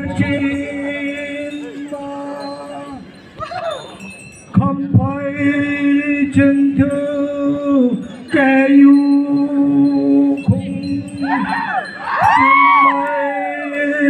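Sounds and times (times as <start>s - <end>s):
men chanting unaccompanied: 0.0s - 3.1s, 5.2s - 14.0s.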